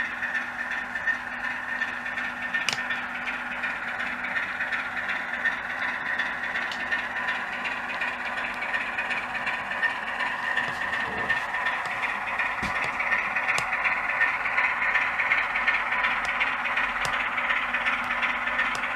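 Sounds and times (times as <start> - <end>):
diesel engine sound from small speaker: 0.0 - 18.9.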